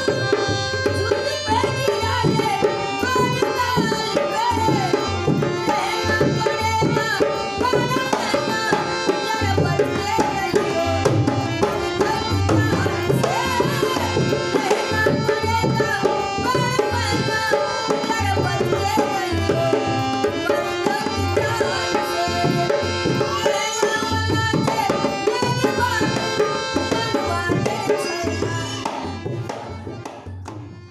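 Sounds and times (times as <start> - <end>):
dholak drum beat: 0.0 - 30.9
harmonium chords: 0.0 - 30.9
woman singing folk song: 0.9 - 28.9.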